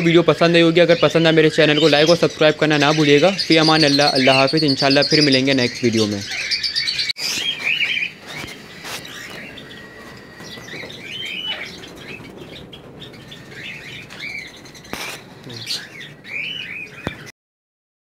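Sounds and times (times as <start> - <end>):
small birds chirping: 0.0 - 17.3.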